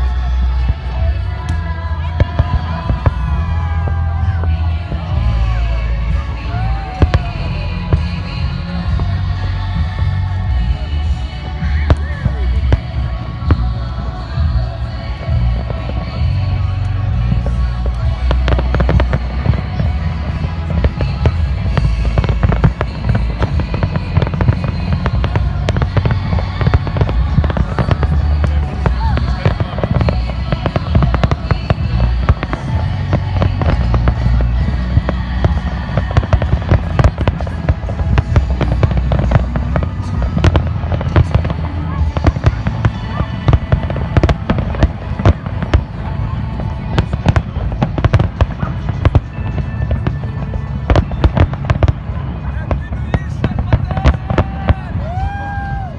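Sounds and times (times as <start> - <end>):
fireworks bangs and crackles: 0.0 - 55.9
low rumble: 0.0 - 55.9.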